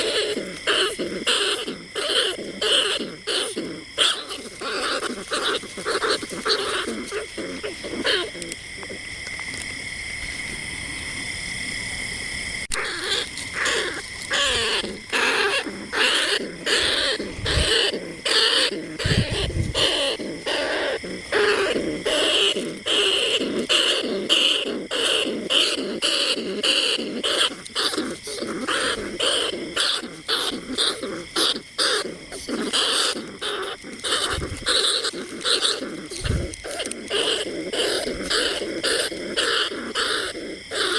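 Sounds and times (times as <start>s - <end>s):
rats squeaking: 0.0s - 9.0s, 12.7s - 40.9s.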